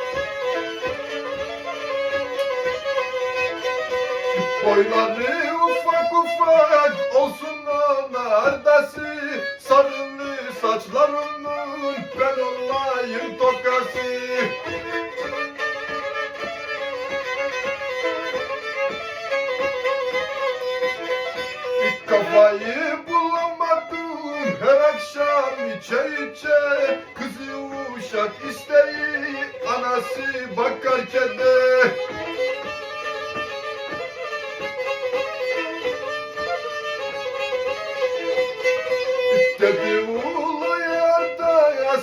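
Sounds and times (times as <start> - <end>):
bowed fiddle melody: 0.0 - 42.0.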